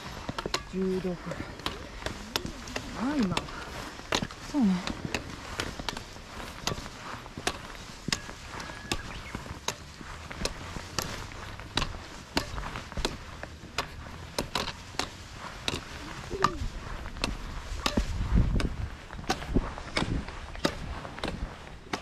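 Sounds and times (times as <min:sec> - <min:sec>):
crunching footsteps on trail: 0:00.0 - 0:22.0.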